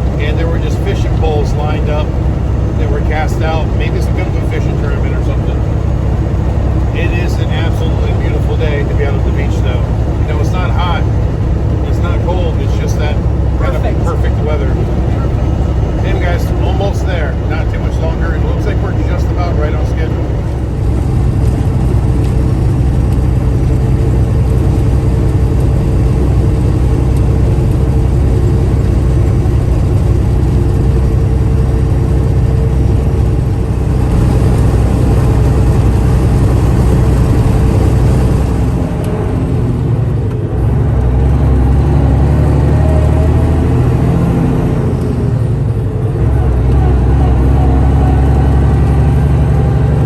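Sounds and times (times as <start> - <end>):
road noise: 0.0 - 50.0
vehicle engine drone: 0.0 - 50.0.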